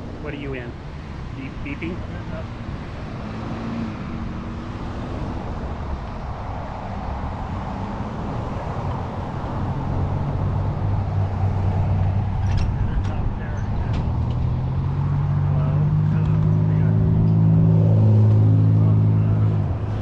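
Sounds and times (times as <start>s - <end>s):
road and wind noise: 0.0s - 20.0s
vehicle engine humming: 0.0s - 20.0s.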